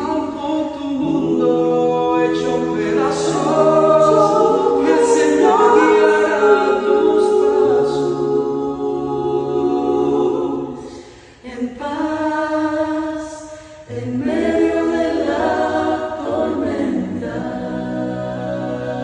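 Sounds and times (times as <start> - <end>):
choir singing a cappella: 0.0 - 19.0.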